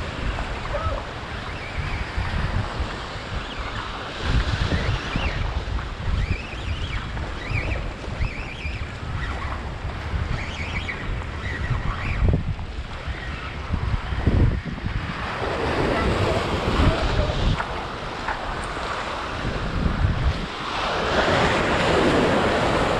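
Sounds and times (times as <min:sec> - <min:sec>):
waves washing on shore: 0:00.0 - 0:22.9
wind buffeting microphone: 0:00.0 - 0:22.9.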